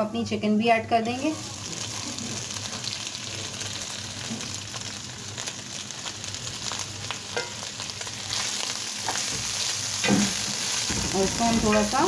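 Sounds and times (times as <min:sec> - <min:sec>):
chicken sizzling in hot oil: 0:01.1 - 0:12.0.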